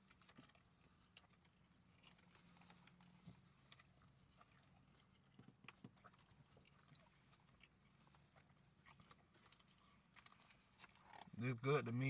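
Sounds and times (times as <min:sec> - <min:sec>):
faint chewing: 0:00.0 - 0:11.7.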